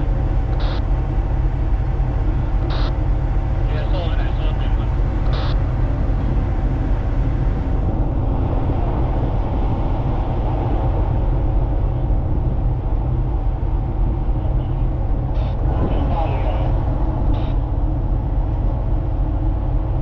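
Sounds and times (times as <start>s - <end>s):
ship diesel engine droning: 0.0s - 20.0s.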